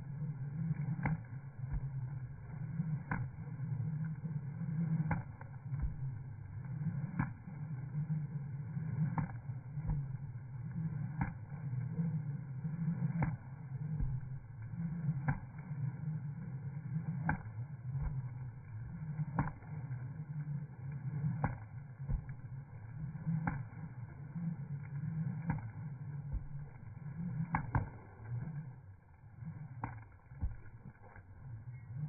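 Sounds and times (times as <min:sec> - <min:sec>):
skipping rope whirring: 0:00.0 - 0:32.0.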